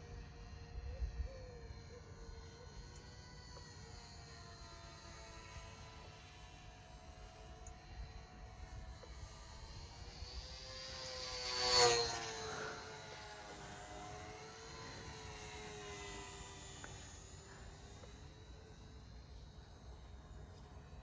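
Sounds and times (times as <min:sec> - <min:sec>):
model aircraft motors whining: 0:00.0 - 0:21.0.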